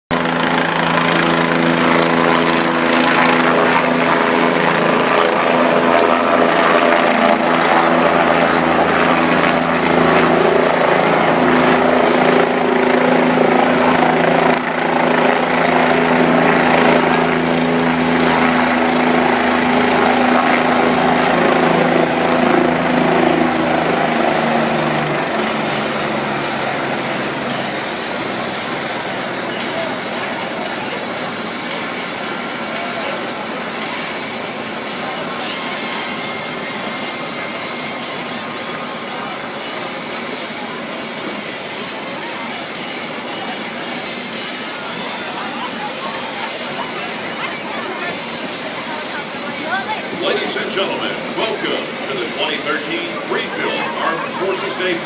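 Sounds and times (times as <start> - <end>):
helicopter rotor and engine: 0.1 - 55.0.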